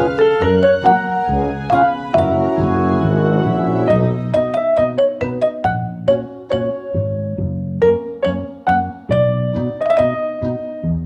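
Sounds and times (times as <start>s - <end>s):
children's piano tune with bass: 0.0s - 11.0s.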